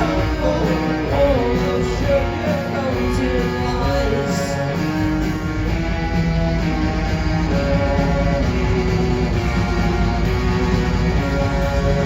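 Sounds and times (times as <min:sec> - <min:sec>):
pop-rock band playing: 0:00.0 - 0:12.0.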